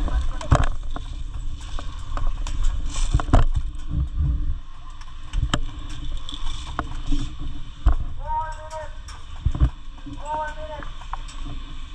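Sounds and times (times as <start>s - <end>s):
low wind rumble on microphone: 0.0s - 11.9s.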